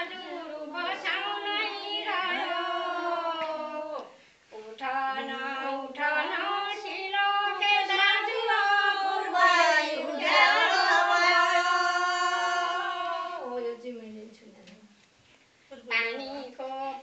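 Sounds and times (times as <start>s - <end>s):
women singing in unison: 0.0s - 13.8s.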